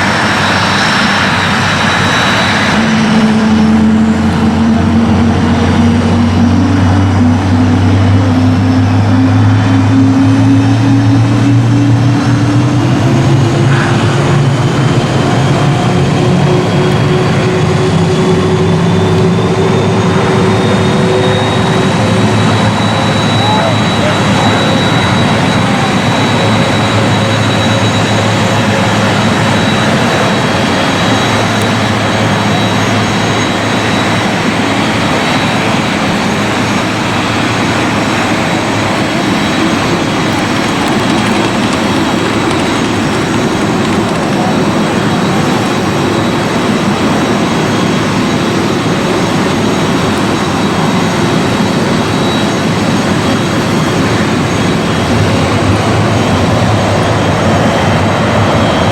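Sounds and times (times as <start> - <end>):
faint high whine: 0.0 - 58.9
jet engines rushing: 0.0 - 58.9.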